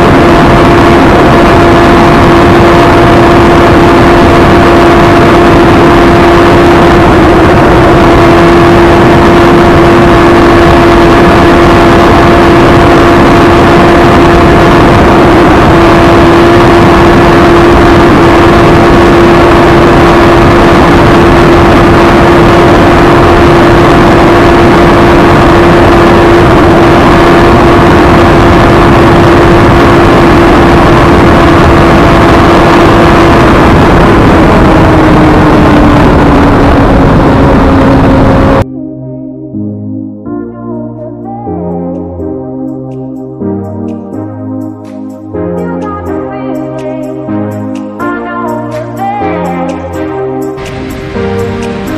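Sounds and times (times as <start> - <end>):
loud rushing noise: 0.0 - 38.7, 42.8 - 51.9.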